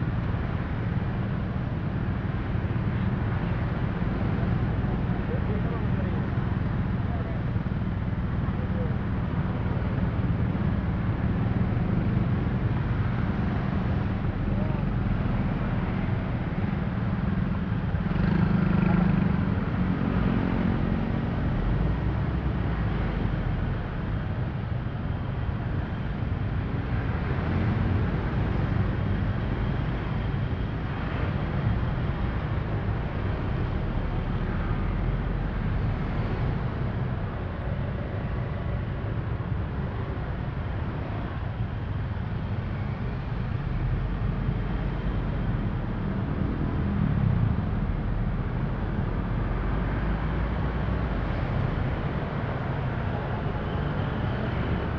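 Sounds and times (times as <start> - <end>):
low rumble of road traffic: 0.0 - 54.9
scooter and car engines: 0.0 - 54.9.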